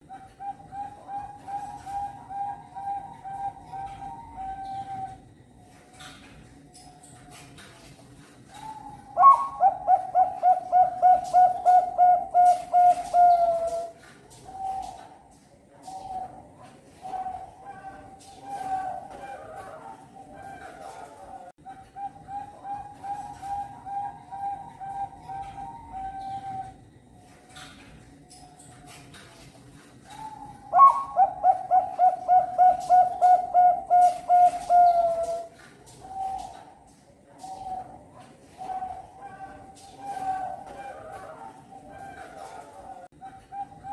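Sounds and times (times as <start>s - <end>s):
dove cooing: 0.0s - 6.3s, 8.5s - 27.9s, 30.0s - 43.9s.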